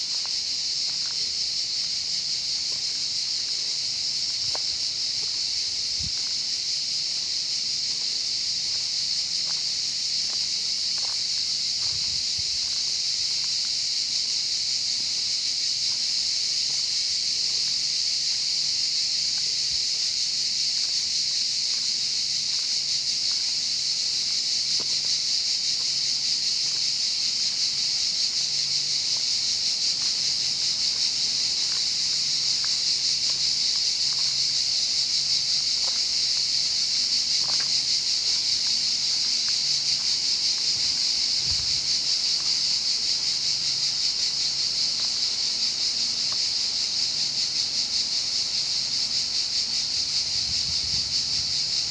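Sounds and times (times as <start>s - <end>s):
cicadas buzzing: 0.0s - 51.9s.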